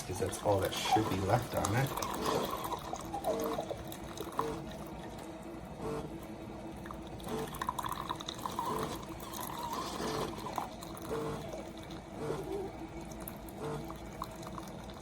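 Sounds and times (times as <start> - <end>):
coffee trickling into a cup: 0.0 - 15.0.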